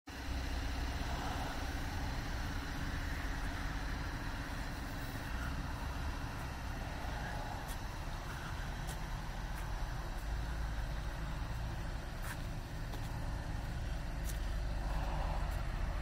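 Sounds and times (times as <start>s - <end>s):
low hum: 0.1s - 16.0s
low outdoor rumble: 0.1s - 16.0s.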